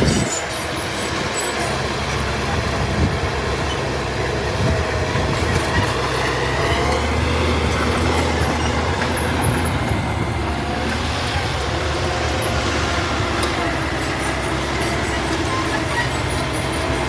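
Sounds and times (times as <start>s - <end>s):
bulldozer diesel engine running: 0.0s - 17.0s
steel tracks squealing: 0.0s - 17.0s.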